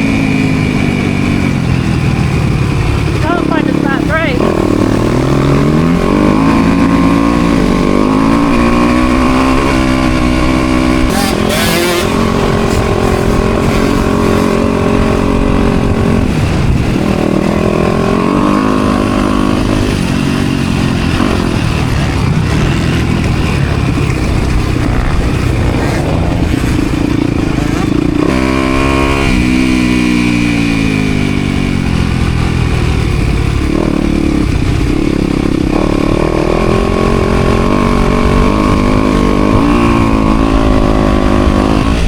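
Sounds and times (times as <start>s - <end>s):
motorbike engine revving: 0.0s - 42.0s.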